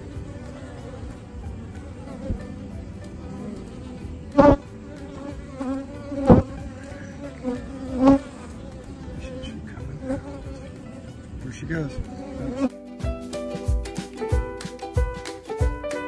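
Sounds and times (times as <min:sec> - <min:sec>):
bees humming: 0:00.0 - 0:16.0.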